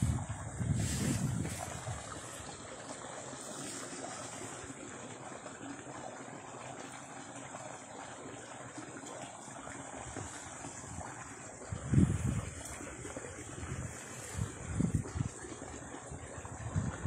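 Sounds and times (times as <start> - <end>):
water trickling in a channel: 0.0 - 17.0.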